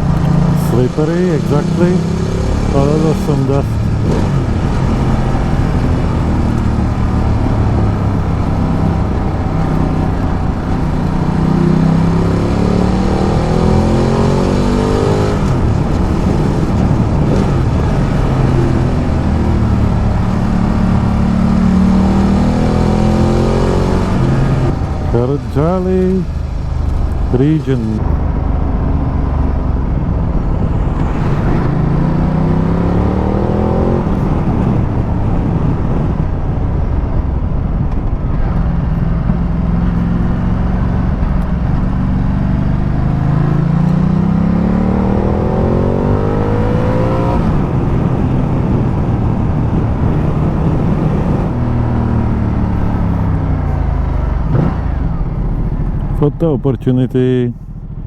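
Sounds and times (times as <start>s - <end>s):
wind rushing: 0.0s - 41.1s, 43.5s - 53.5s
motorcycle engine accelerating: 0.0s - 58.0s.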